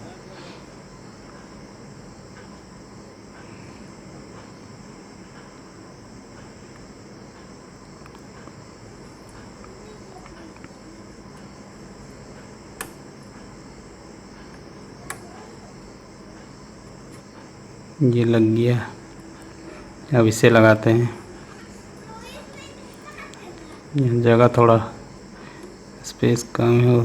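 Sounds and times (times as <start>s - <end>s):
faint hiss: 0.0s - 27.0s.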